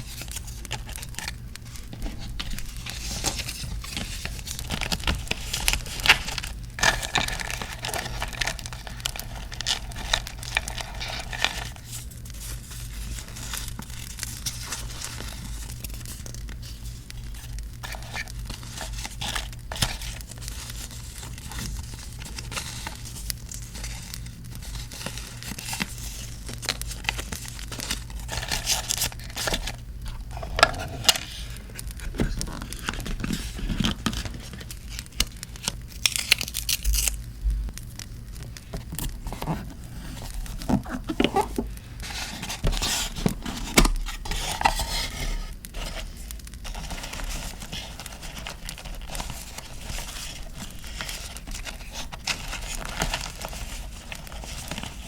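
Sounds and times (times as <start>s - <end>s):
paper crinkling and tearing: 0.0s - 55.0s.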